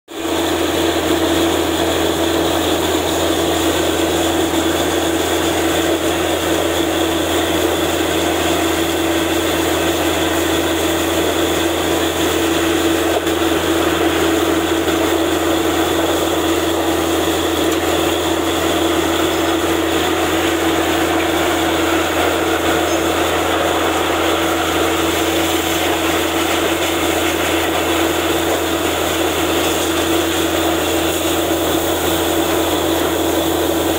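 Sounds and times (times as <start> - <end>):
drilling rig engine running: 0.1 - 33.9.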